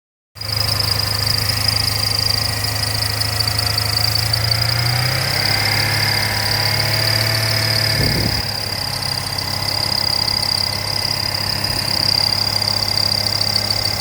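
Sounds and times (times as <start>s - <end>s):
car engine idling: 0.4s - 14.0s
high-pitched belt whine: 0.4s - 14.0s.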